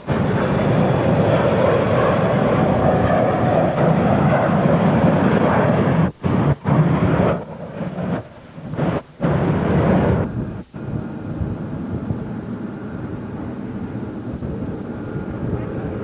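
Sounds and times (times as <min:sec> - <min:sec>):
airliner engine noise: 0:00.0 - 0:16.0.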